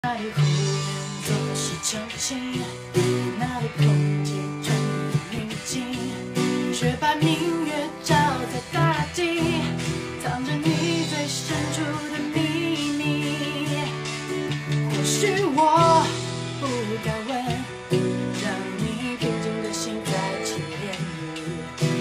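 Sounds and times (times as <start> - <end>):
strummed acoustic guitar: 0.0 - 22.0
woman singing pop song: 0.0 - 22.0.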